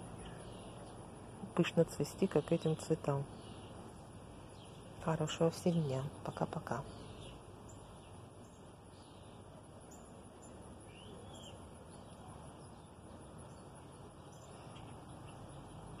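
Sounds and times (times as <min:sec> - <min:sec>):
distant bird chirps: 0:00.0 - 0:16.0.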